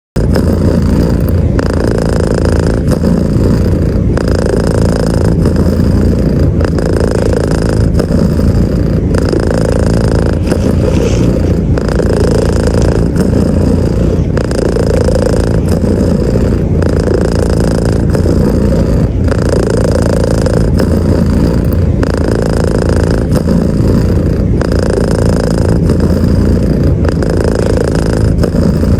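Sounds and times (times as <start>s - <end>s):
cat purring: 0.2s - 28.9s.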